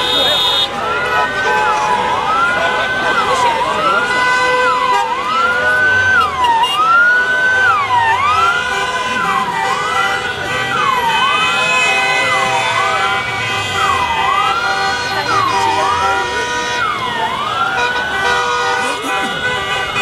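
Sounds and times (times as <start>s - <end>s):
ambulance siren wailing: 0.0s - 20.0s.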